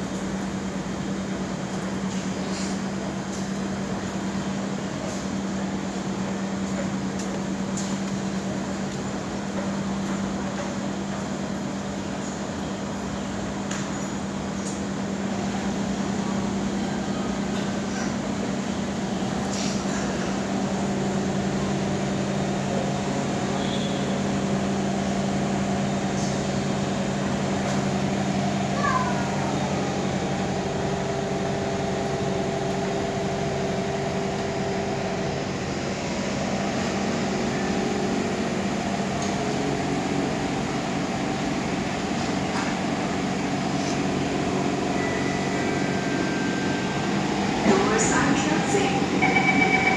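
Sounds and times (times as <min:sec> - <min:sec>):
train hum and rumble: 0:00.0 - 0:49.9.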